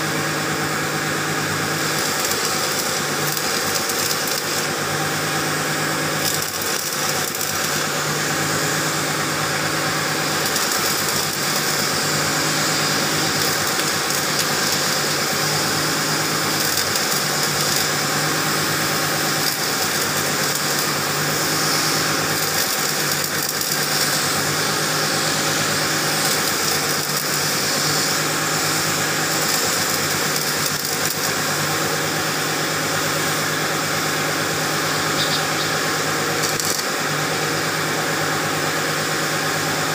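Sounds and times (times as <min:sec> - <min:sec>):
welding arc hissing and crackling: 0:00.0 - 0:39.9.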